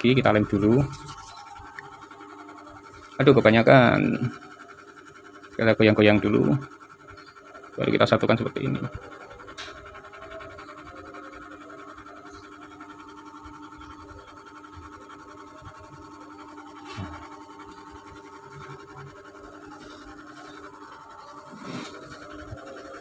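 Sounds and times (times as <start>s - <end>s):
faint hum of held tones: 0.0s - 23.0s.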